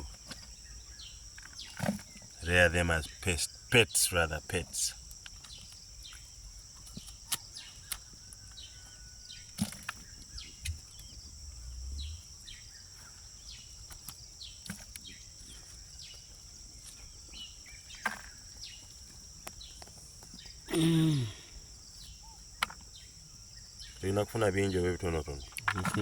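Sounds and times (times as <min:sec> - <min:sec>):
crickets droning: 0:00.0 - 0:26.0.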